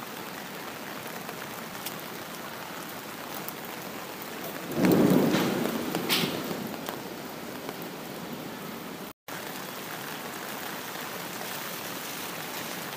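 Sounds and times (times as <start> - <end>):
rain falling steadily: 0.0 - 12.9.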